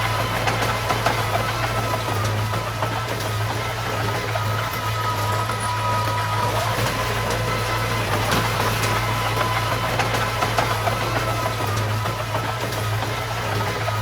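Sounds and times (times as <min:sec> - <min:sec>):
diesel engine running at low revs: 0:00.0 - 0:14.0.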